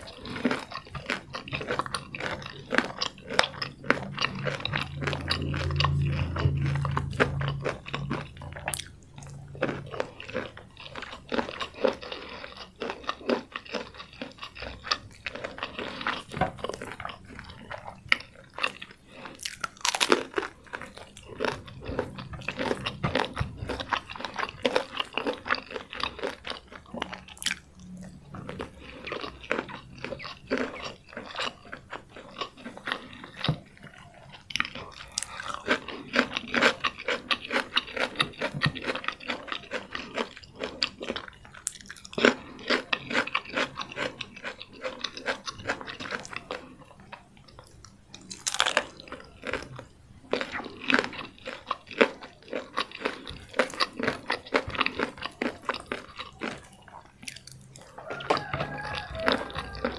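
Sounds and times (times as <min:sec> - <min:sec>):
chewing crispy food: 0:00.0 - 0:59.9.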